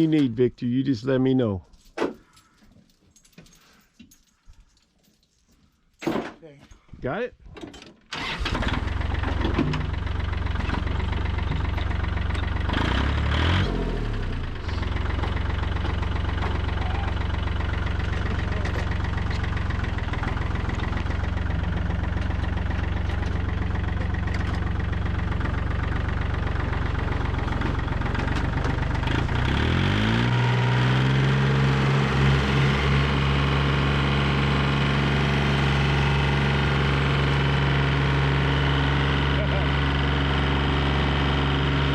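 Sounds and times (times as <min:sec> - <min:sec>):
car engine idling and revving: 0:08.2 - 0:41.9.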